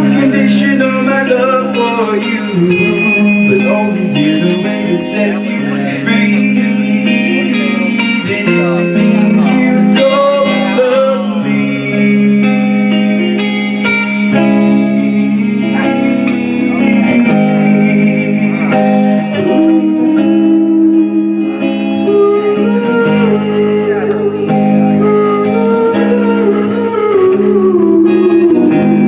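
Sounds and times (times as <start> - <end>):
gliding lead guitar line: 0.0 - 29.0
live band playing instrumental: 0.0 - 29.0.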